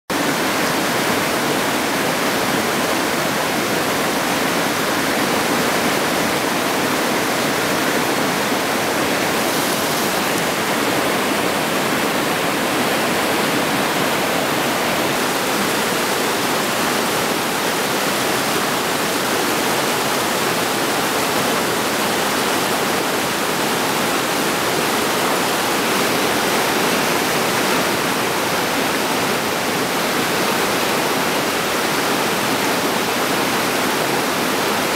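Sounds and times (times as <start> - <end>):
water rushing over rapids: 0.1 - 34.9.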